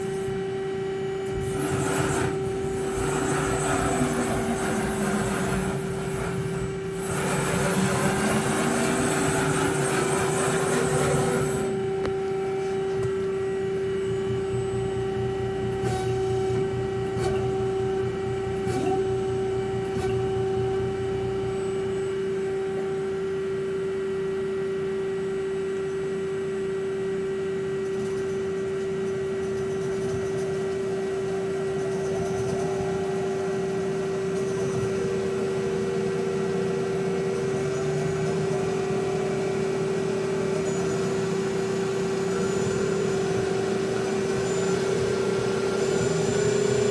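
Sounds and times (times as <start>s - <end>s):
lathe running with whine: 0.0s - 46.9s.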